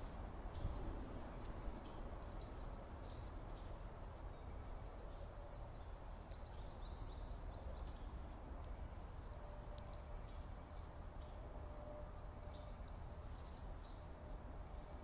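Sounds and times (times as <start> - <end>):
small birds chirping: 0.0 - 11.4, 12.4 - 15.0
steady low rumble: 0.0 - 15.0.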